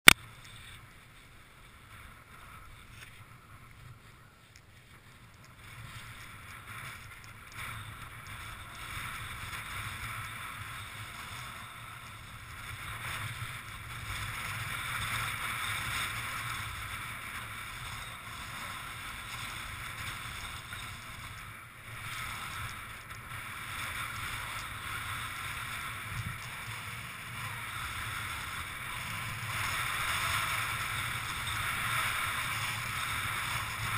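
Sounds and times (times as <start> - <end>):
wind on microphone: 5.0 - 33.9.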